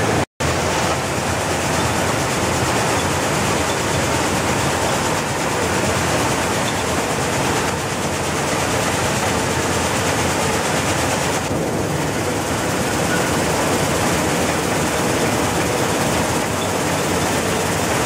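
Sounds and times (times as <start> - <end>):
vibrating sieve machine noise: 0.0 - 18.0.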